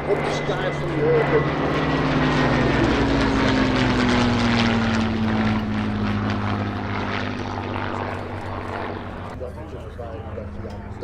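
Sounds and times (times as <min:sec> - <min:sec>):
propeller planes flying past: 0:00.0 - 0:11.0.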